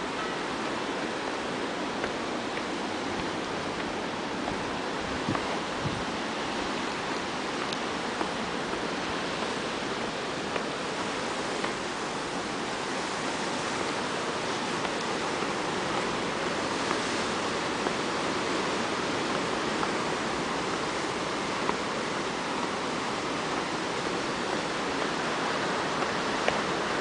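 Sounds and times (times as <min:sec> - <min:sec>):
surf breaking on rocks: 0:00.0 - 0:27.0.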